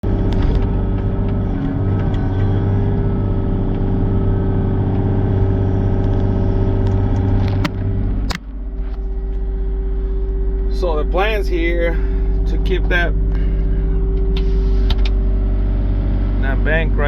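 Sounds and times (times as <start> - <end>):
excavator engine rumbling: 0.0 - 17.0.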